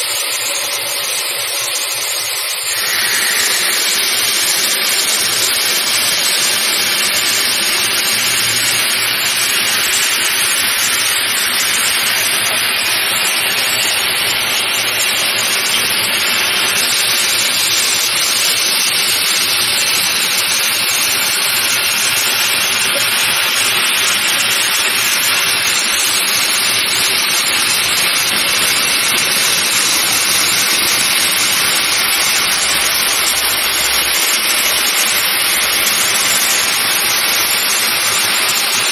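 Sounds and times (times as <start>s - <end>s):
hot metal sizzling on ice: 0.0s - 38.9s
water flashing to steam: 0.0s - 38.9s.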